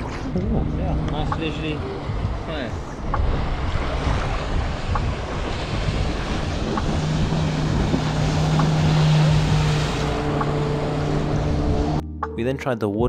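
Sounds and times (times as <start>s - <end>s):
motorboat engine drone: 0.0s - 12.0s
water slapping: 0.0s - 12.0s
wind buffeting microphone: 0.0s - 12.0s.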